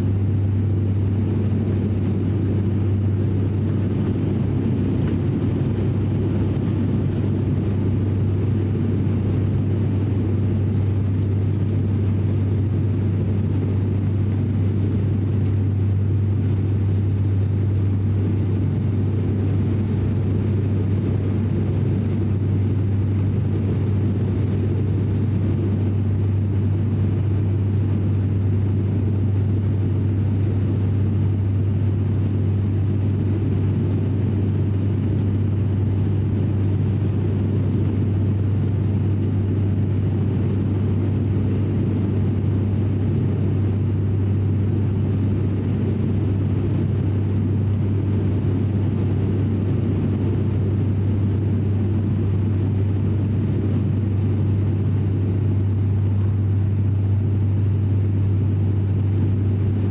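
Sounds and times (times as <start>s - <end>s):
faint high whine: 0.0s - 59.9s
low propeller hum: 0.0s - 59.9s
turboprop cabin drone: 0.0s - 59.9s.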